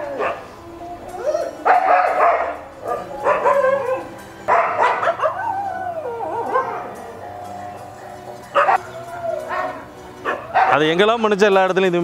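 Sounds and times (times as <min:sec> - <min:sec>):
dogs barking and whining: 0:00.0 - 0:10.8.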